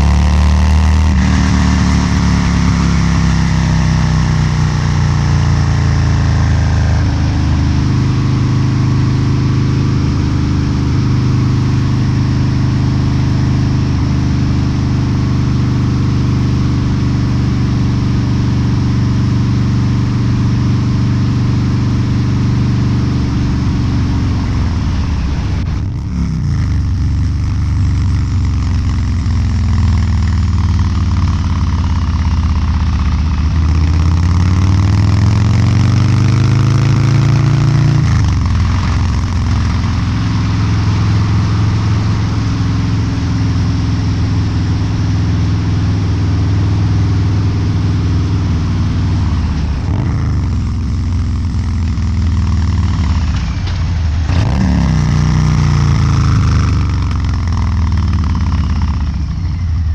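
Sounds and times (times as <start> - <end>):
motorcycle engine revving and cruising: 0.0 - 59.9.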